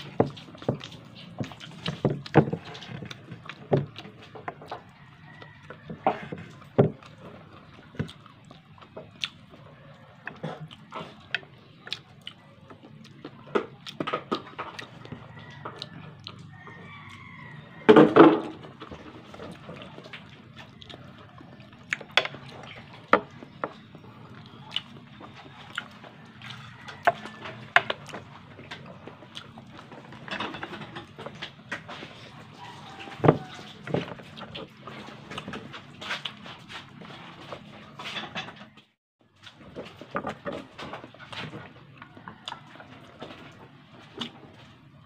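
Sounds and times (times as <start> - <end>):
wet chewing and lip smacks: 0.0 - 17.2, 18.6 - 30.3, 31.0 - 37.6, 41.2 - 44.8.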